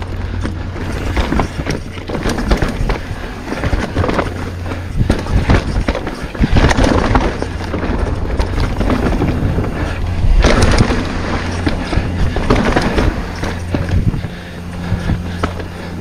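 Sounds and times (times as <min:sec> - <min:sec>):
bike rattling and knocking: 0:00.0 - 0:16.0
bike tyres on dirt: 0:00.0 - 0:16.0
wind on microphone: 0:00.8 - 0:16.0.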